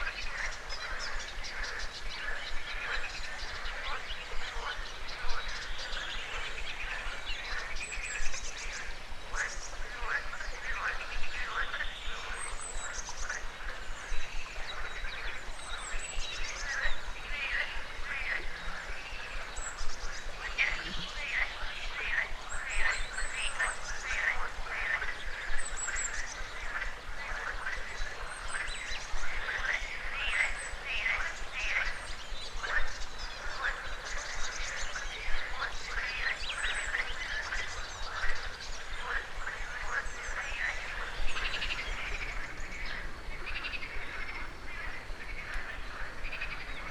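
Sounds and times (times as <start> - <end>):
frogs croaking: 0.0 - 46.9.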